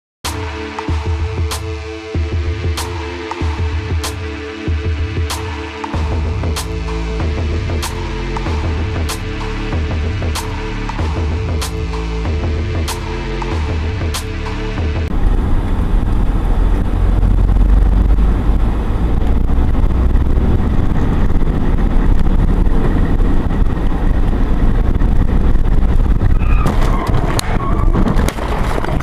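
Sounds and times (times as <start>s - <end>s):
car road and engine rumble: 0.3s - 29.0s.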